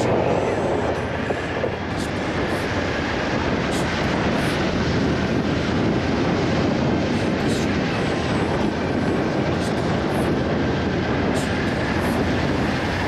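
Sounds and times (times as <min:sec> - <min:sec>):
rushing wind noise: 0:00.0 - 0:13.0.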